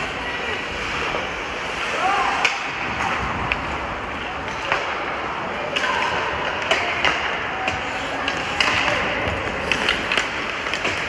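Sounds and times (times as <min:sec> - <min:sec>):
skate blades scraping ice: 0:00.0 - 0:11.0
hockey sticks and puck clacking: 0:00.5 - 0:11.0.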